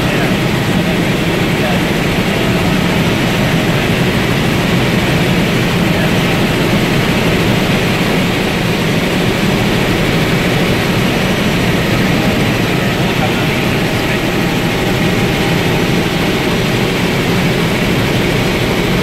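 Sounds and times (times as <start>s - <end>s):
helicopter engine and rotors: 0.0s - 19.0s.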